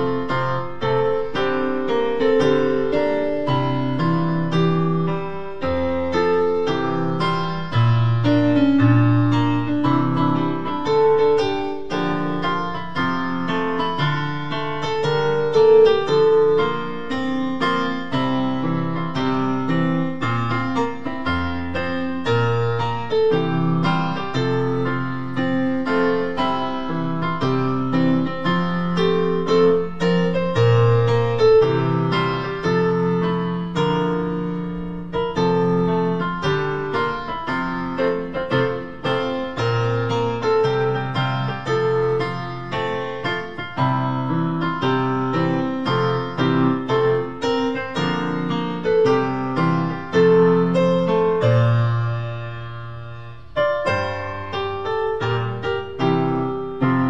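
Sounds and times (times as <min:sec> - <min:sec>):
piano playing hymn chords: 0:00.0 - 0:57.0.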